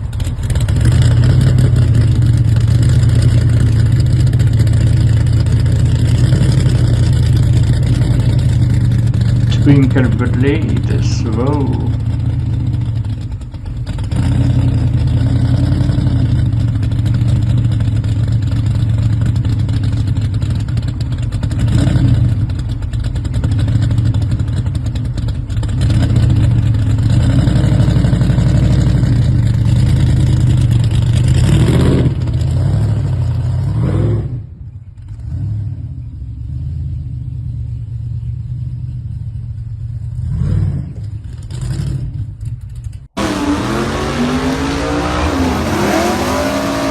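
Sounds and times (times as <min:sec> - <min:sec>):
engine throttle blips: 0:00.0 - 0:33.4, 0:37.5 - 0:46.9
car engine rumbling: 0:00.0 - 0:46.9.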